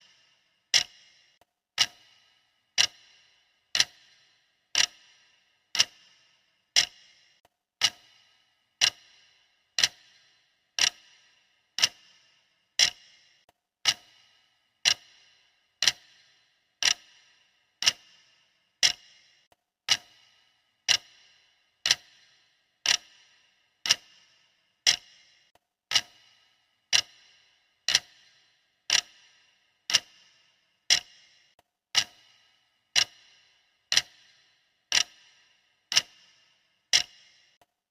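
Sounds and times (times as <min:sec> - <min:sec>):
timer ticking with metallic ring: 0:00.0 - 0:37.7.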